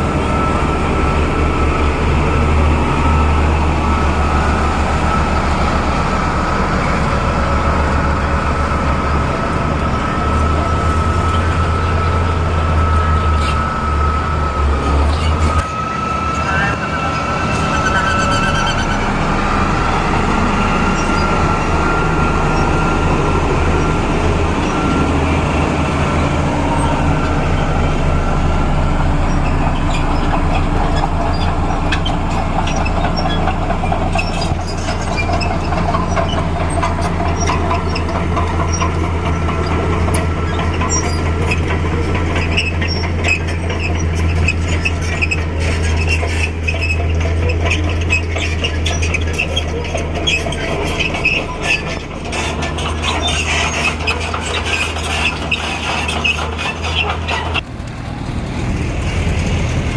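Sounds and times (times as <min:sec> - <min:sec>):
steel tracks clanking and squeaking: 0:00.0 - 0:57.7
bulldozer diesel engine running: 0:00.0 - 0:59.9.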